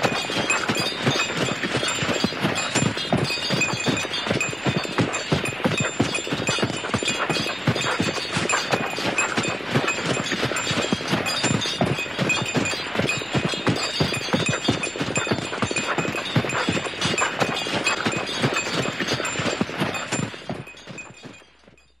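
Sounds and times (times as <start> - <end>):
hooves clip-clopping: 0.0 - 22.0.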